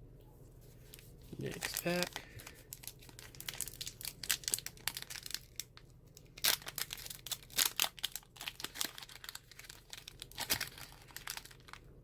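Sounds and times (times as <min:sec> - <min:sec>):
packaging crinkling and tearing: 0:00.8 - 0:12.0.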